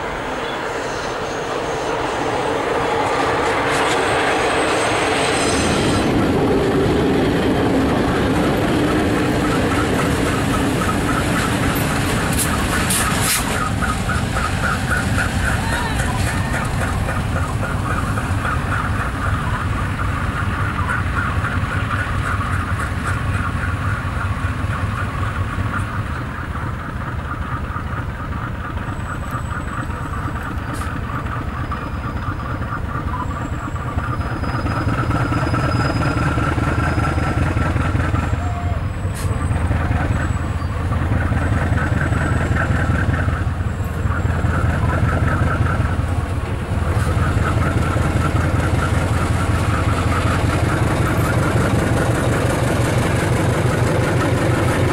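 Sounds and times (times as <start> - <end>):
locomotive diesel engine running: 0.0 - 54.9.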